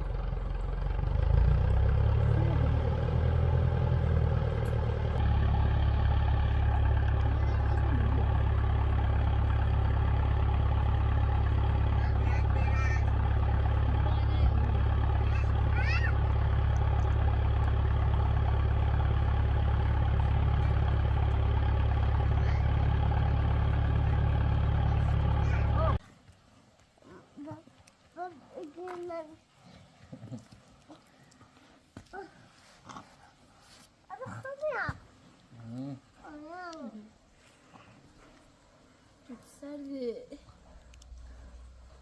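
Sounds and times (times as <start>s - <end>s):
engine humming: 0.0s - 32.4s, 34.0s - 42.0s.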